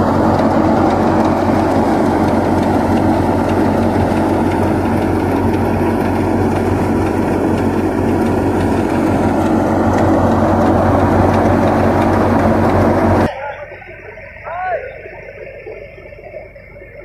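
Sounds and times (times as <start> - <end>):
grain thresher running: 0.0 - 13.8
tractor engine hum: 0.0 - 17.0.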